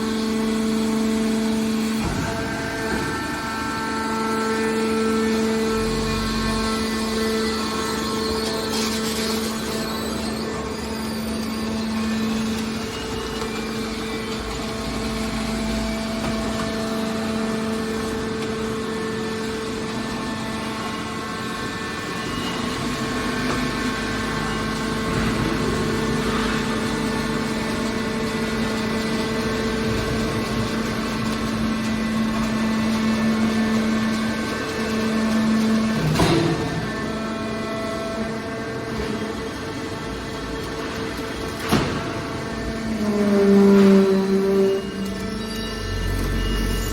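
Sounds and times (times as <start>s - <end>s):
hydraulic power unit droning hum: 0.0s - 46.9s.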